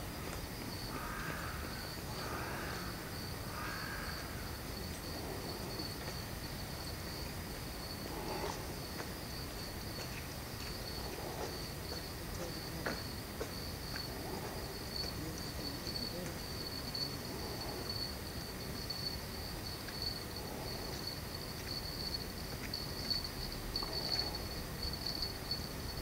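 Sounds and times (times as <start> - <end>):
high-pitched insect trill: 0.0 - 26.0.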